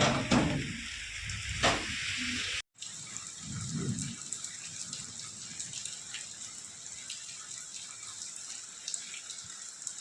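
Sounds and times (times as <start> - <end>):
fine patter of water: 0.0 - 10.0
rain falling: 0.0 - 10.0.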